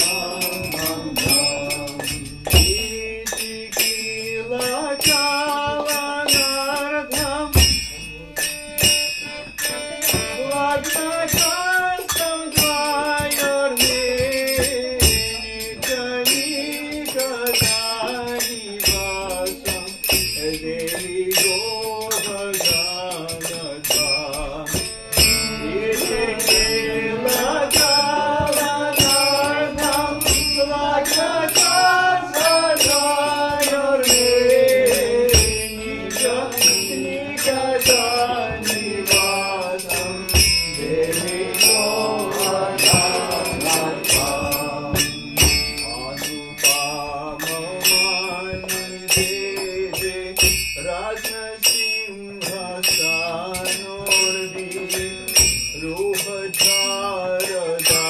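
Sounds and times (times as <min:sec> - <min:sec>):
drum strokes: 0:00.0 - 0:16.3, 0:17.0 - 0:51.4
harmonium: 0:00.0 - 0:51.6
brass hand cymbals: 0:00.0 - 0:58.0
man singing devotional song: 0:00.0 - 0:58.0.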